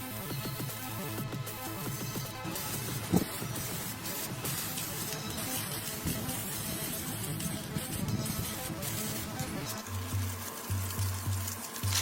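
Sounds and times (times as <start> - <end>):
plucked string background music: 0.1 - 12.0.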